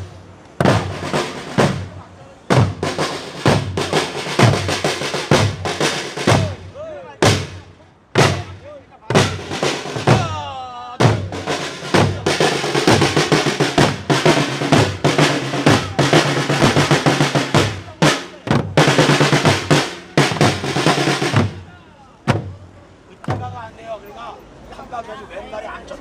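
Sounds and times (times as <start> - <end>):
group of drummers beating drums: 0.0 - 23.7.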